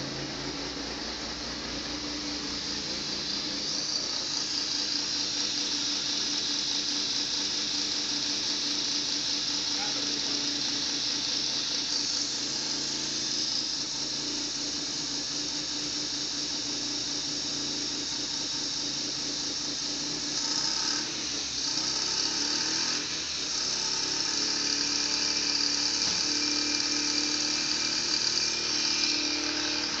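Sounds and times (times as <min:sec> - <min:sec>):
high-pitched engine whine: 0:00.0 - 0:30.0
rotary engine running: 0:00.0 - 0:30.0.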